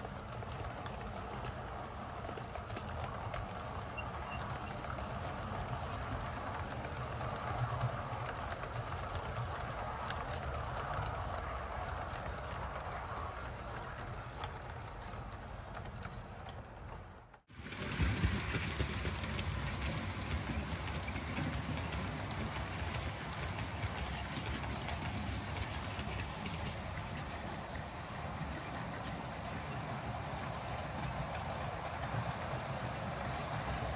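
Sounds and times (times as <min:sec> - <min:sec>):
model train wheels rumbling on rails: 0:00.0 - 0:33.9.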